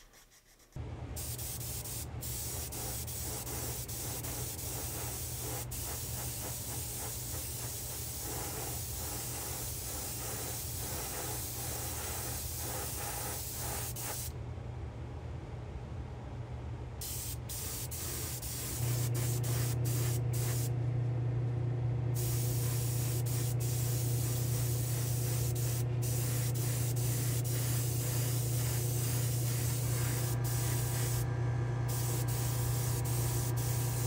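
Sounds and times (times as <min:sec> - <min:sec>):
airbrush hissing: 0:00.0 - 0:14.3, 0:17.0 - 0:20.7, 0:22.2 - 0:31.2, 0:31.9 - 0:34.0
steady low hum: 0:00.8 - 0:34.0.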